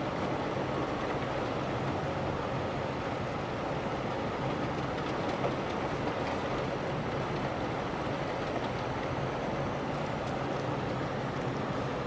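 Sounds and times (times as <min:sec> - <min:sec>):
tyres running on snow: 0:00.0 - 0:12.0.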